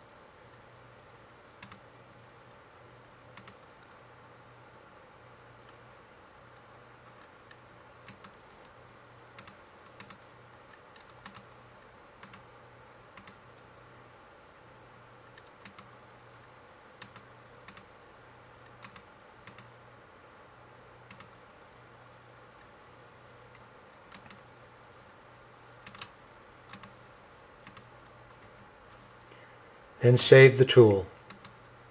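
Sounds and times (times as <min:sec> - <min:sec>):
faint low hum: 0:00.0 - 0:31.9.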